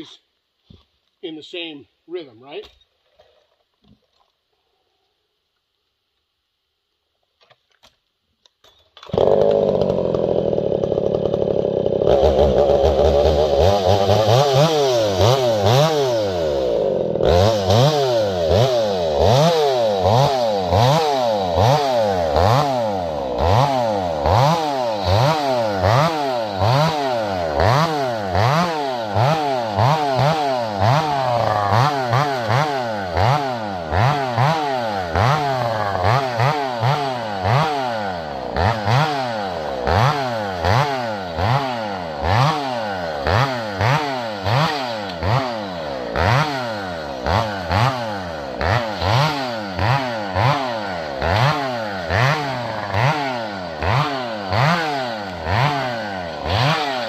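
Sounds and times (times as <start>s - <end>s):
chainsaw revving: 9.0s - 57.0s.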